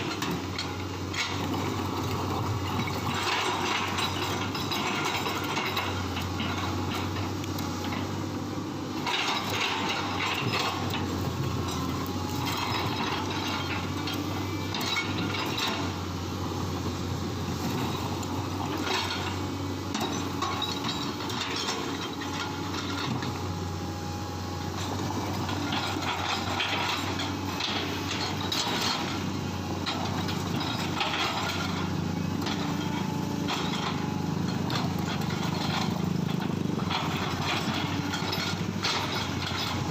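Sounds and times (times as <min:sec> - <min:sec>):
machine clanks and knocks: 0:00.0 - 0:08.2, 0:08.9 - 0:16.0, 0:17.6 - 0:23.5, 0:24.8 - 0:39.9
excavator diesel engine running: 0:00.0 - 0:39.9.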